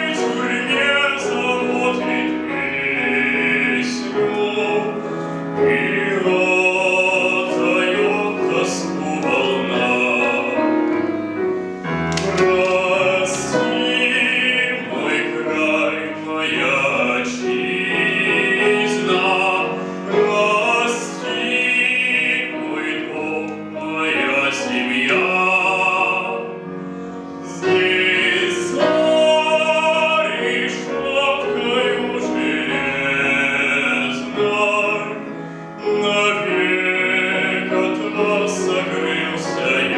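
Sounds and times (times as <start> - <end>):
man singing operatically: 0.0 - 10.9, 12.3 - 26.6, 27.4 - 39.9
piano accompaniment: 0.0 - 39.9.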